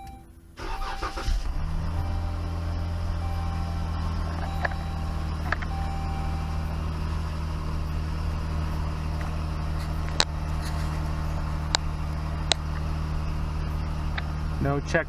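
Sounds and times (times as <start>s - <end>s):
car engine idling: 0.0s - 15.0s
steady tone: 0.0s - 15.0s.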